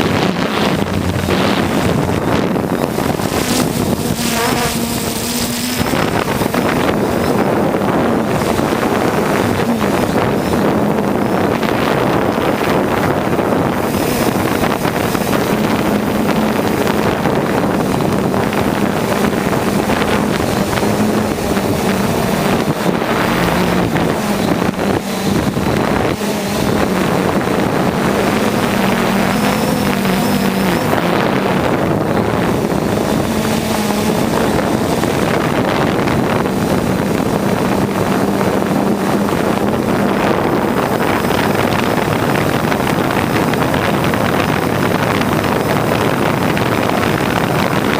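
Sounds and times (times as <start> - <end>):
drone propellers humming: 0.0 - 47.9
wind on microphone: 0.0 - 47.9.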